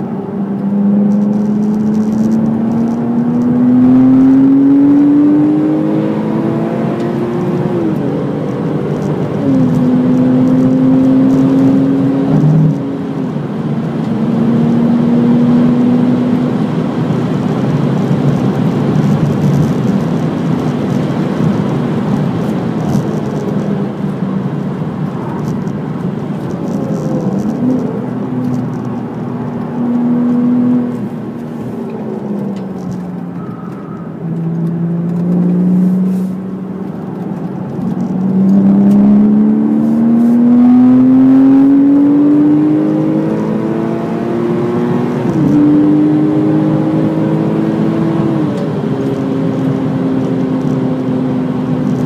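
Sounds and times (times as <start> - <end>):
car engine revving: 0.0 - 52.0
road and wind noise: 0.0 - 52.0.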